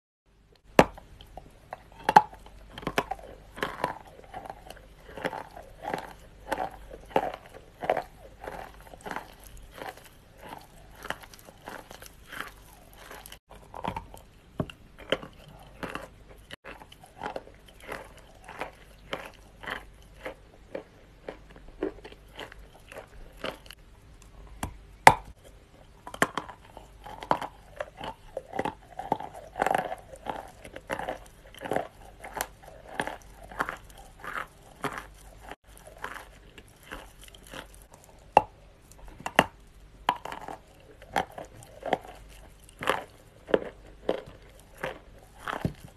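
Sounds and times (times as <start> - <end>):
dry clay crunching: 0.6 - 45.9.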